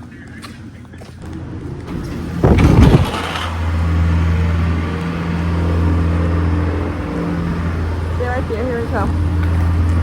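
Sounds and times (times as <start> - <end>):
car engine starting and idling: 1.2 - 10.0.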